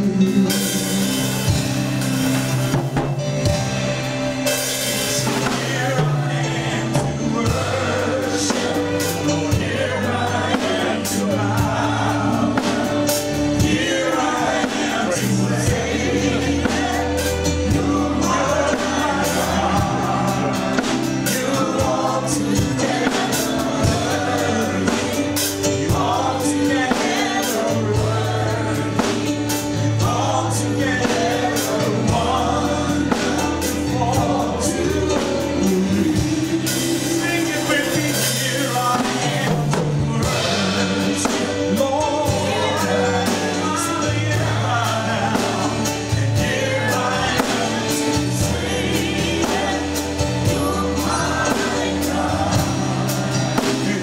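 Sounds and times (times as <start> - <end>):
drums keeping steady beat: 0.0 - 54.0
group singing gospel song: 0.0 - 54.0
held bass notes: 0.0 - 54.0.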